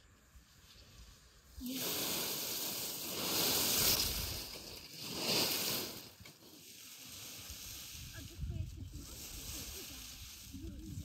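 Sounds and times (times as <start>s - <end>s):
raking dry leaves: 0.6s - 11.0s.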